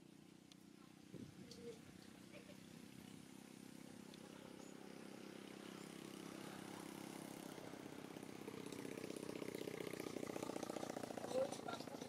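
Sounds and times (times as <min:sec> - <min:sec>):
small engine running: 0:01.9 - 0:12.0.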